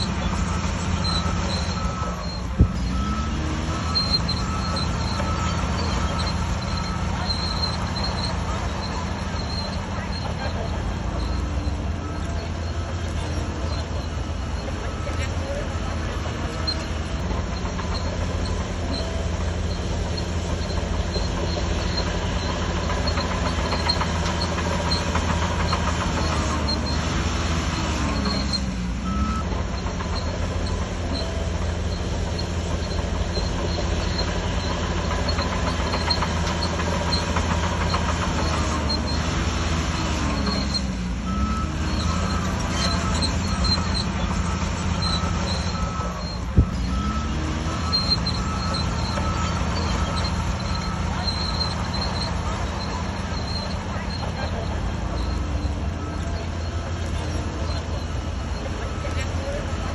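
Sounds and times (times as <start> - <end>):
bulldozer diesel engine under load: 0.0 - 59.9
tracks squealing and clanking: 0.0 - 59.9.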